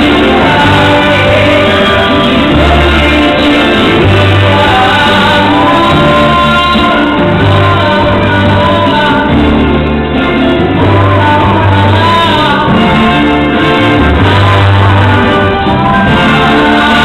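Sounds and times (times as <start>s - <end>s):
person singing amplified: 0.0s - 17.0s
symphony orchestra playing: 0.0s - 17.0s.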